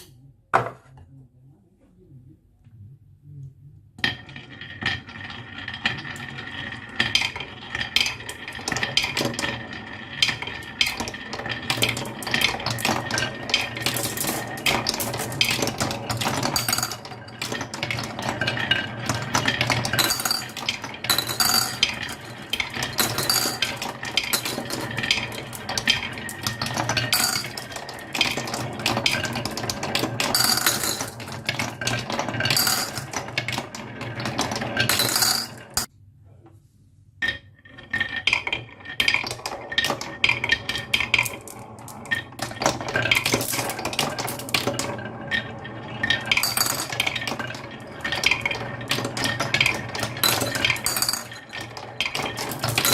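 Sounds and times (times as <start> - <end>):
marbles clicking and clinking: 4.0 - 35.9, 37.2 - 52.9
marbles rolling rumble: 4.0 - 35.9, 37.2 - 52.9.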